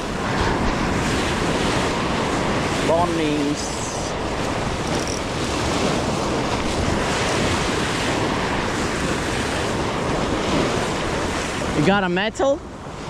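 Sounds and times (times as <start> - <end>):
ocean waves washing on rock: 0.0 - 13.0
wind rumbling on microphone: 0.0 - 13.0.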